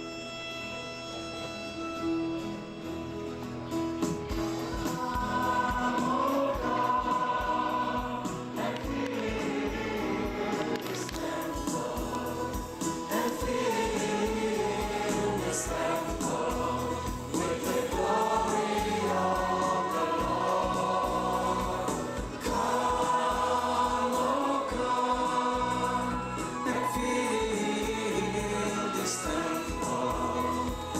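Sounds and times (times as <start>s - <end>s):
band accompaniment with steady beat: 4.0s - 30.9s
gospel choir singing: 4.4s - 30.9s.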